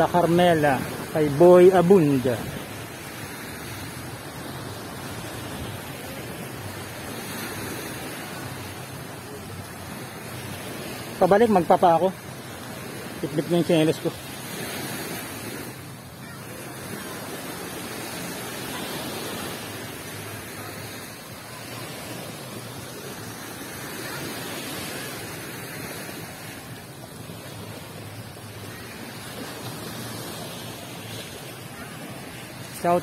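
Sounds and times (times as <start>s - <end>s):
surf washing onto beach: 0.0s - 33.0s.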